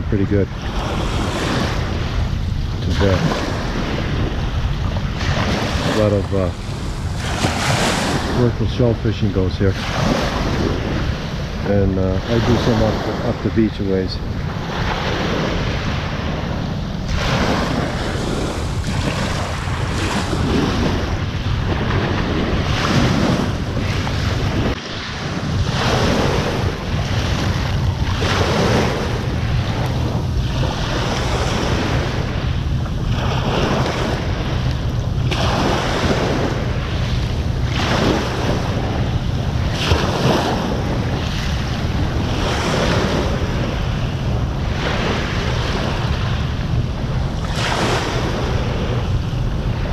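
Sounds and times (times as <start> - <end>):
small waves washing onto beach: 0.0 - 49.9
wind buffeting microphone: 0.0 - 49.9.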